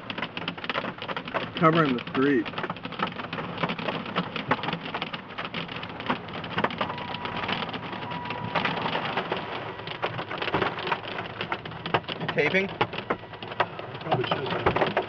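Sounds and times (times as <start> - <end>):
hailstones pelting a vehicle: 0.0 - 15.0
heavy rain rushing: 0.0 - 15.0.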